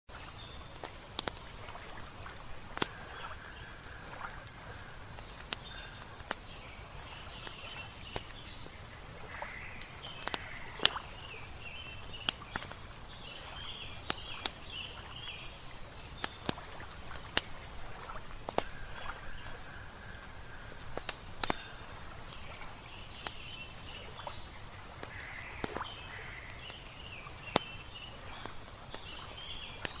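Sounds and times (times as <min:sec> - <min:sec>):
campfire crackling and popping: 0:00.1 - 0:30.0
songbirds chirping: 0:00.1 - 0:30.0
water rushing: 0:00.1 - 0:30.0.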